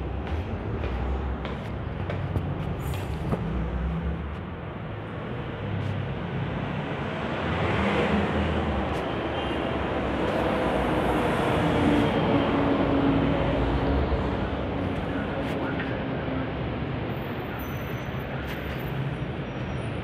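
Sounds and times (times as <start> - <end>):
rumble of passing vehicles: 0.0 - 20.0.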